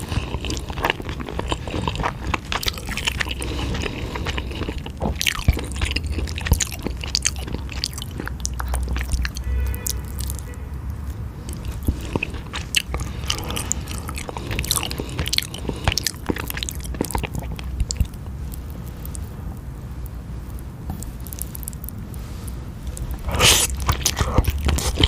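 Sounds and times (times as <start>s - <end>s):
person eating noodles: 0.0s - 19.4s, 21.2s - 25.0s.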